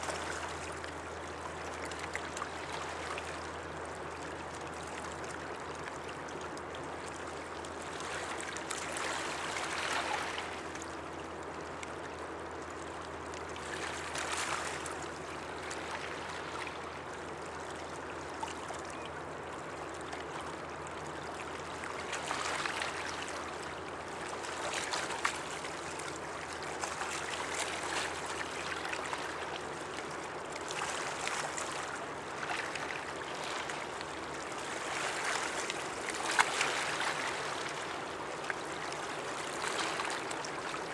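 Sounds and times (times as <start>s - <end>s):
water washing and lapping: 0.0s - 40.9s.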